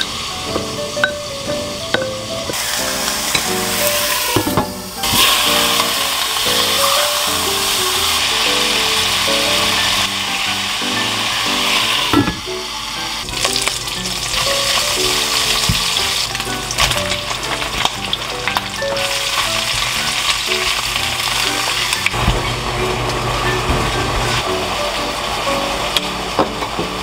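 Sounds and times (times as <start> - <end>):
soft background music: 0.0 - 22.2, 22.8 - 27.0
meat sizzling in a pan: 0.0 - 27.0.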